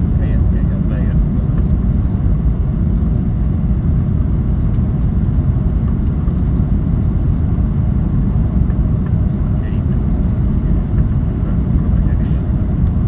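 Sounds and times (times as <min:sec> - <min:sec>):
airliner engine and airflow rumble: 0:00.0 - 0:13.0.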